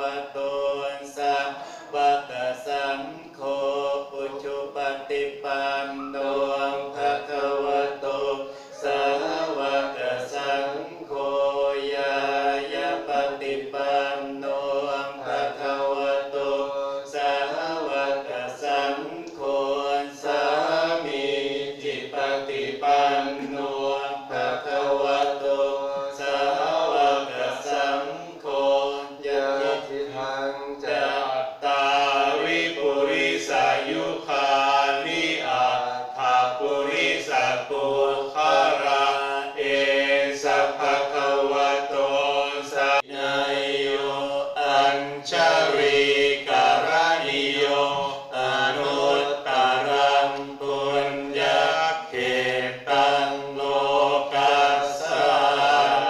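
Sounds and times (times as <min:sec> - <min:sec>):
group chanting in unison: 0:00.0 - 0:56.0.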